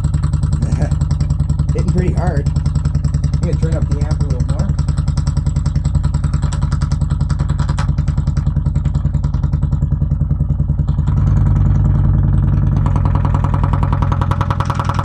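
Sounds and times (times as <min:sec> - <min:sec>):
woofer cone chattering: 0:00.0 - 0:15.0.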